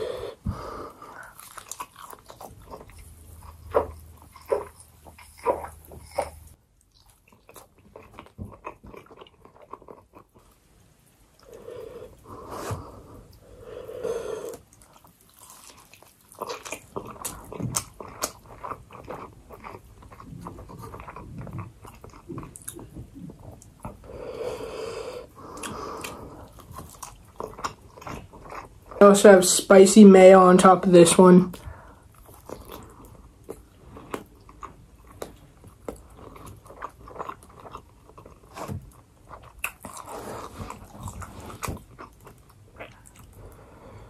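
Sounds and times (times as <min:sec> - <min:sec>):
person chewing food: 0:00.0 - 0:29.0, 0:31.5 - 0:44.0.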